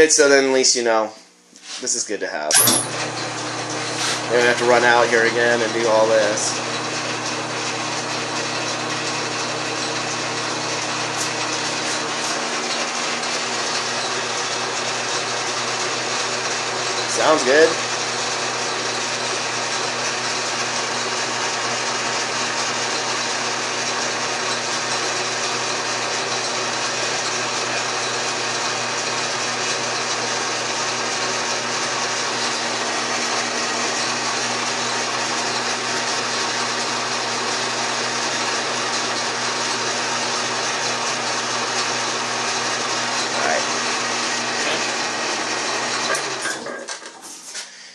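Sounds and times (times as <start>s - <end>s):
metal lathe humming: 1.4s - 47.0s.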